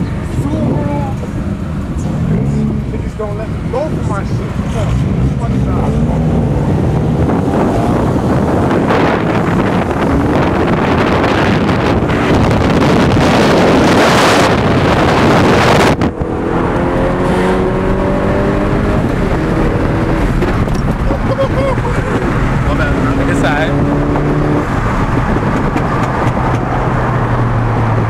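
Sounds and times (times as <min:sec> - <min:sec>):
cars revving and driving past: 0:00.0 - 0:28.0.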